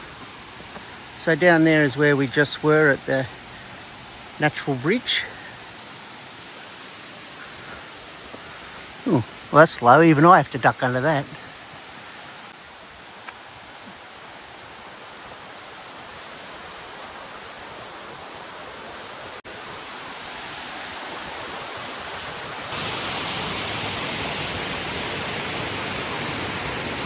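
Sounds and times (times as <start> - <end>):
waterfall rushing: 0.0 - 12.9, 13.5 - 27.0.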